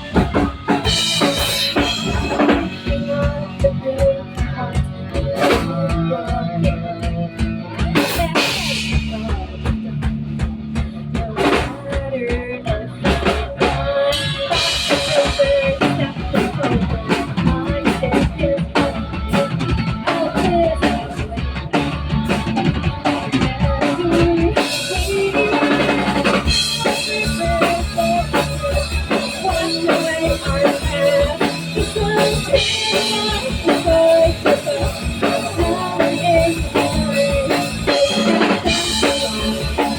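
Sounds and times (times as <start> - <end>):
background music with drum beat: 0.0 - 39.9.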